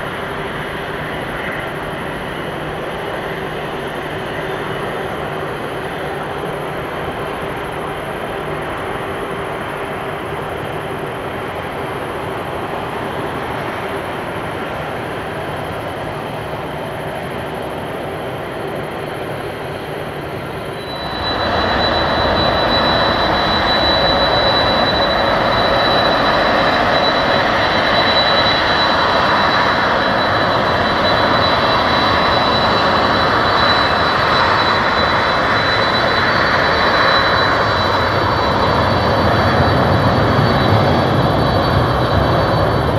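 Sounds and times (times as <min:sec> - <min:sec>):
high steady whine: 0:00.0 - 0:42.9
jet engine rumble: 0:00.0 - 0:42.9.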